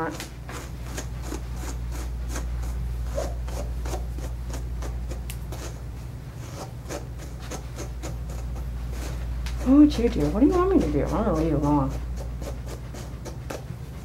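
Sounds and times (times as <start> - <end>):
brush stroking dog hair: 0.0 - 14.0.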